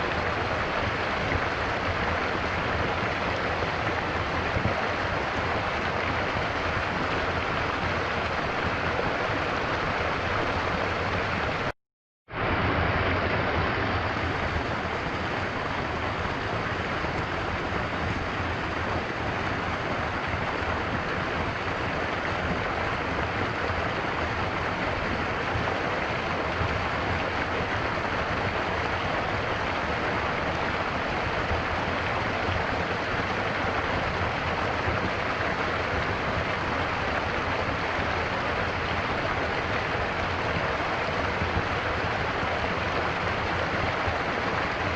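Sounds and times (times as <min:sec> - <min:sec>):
stream water flowing: 0:00.0 - 0:11.7, 0:12.3 - 0:44.9.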